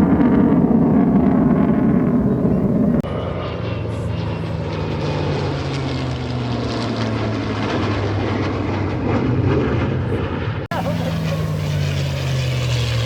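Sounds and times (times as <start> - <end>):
aircraft engine droning: 0.0 - 13.0.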